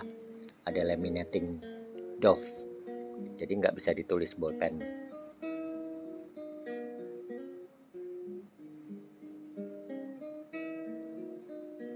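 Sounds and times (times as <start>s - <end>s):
plucked acoustic guitar melody: 0.0s - 11.9s.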